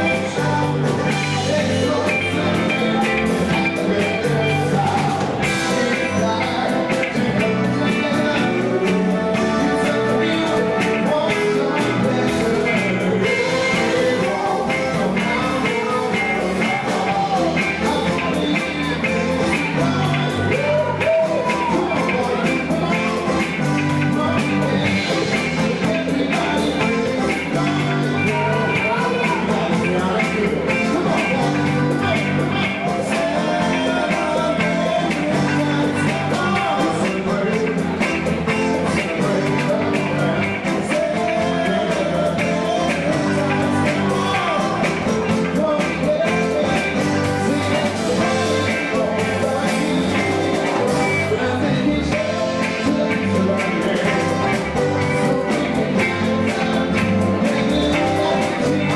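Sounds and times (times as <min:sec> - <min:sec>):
rock and roll music with singing: 0:00.0 - 0:58.9.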